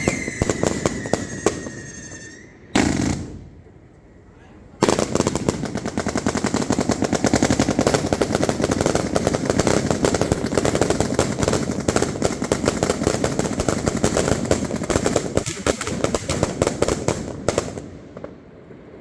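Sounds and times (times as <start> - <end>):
rapid firework bangs: 0.0 - 4.0, 4.8 - 18.4.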